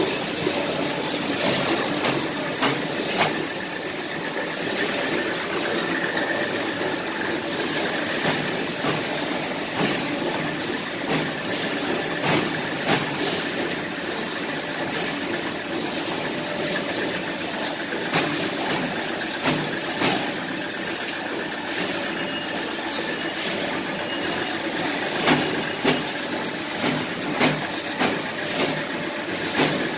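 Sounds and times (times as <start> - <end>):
machine motors and conveyors humming: 0.0 - 29.9
sharp machine clacks: 0.0 - 29.9.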